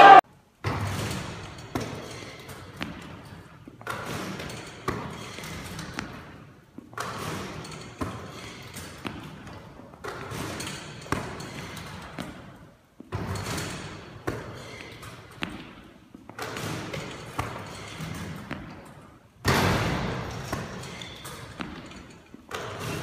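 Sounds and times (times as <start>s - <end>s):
basketball hitting rim and backboard: 0.0s - 6.4s, 7.0s - 12.5s, 13.1s - 15.8s, 16.4s - 23.0s.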